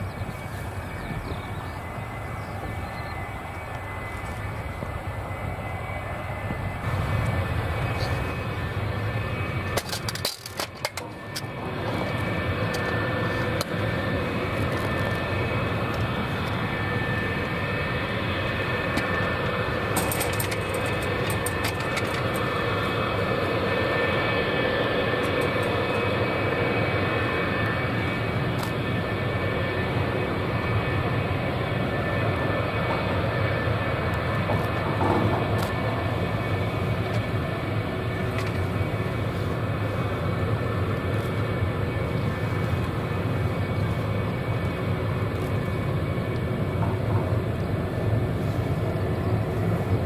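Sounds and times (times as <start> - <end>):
jet engine whine: 0.0 - 50.0.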